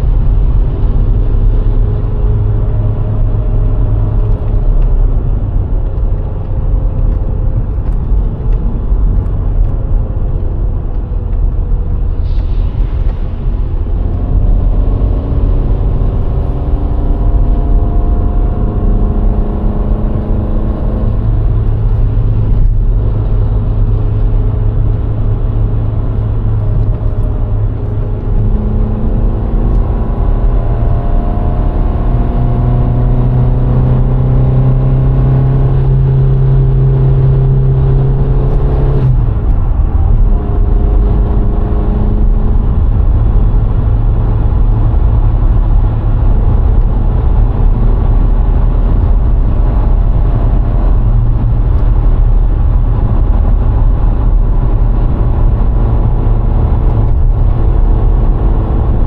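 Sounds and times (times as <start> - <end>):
car engine running: 0.0 - 59.0
road and tyre rumble: 0.0 - 59.0.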